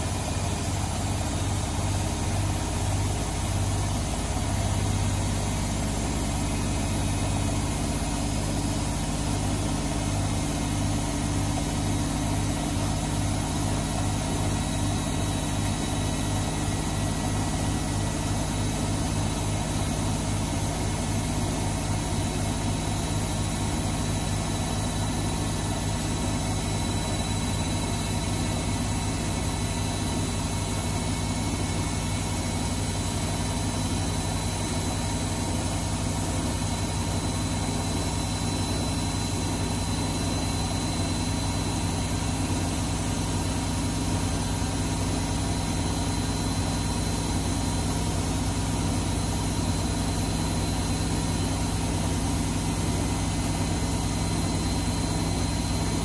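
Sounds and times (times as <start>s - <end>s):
washing machine humming and throbbing: 0.0s - 56.0s.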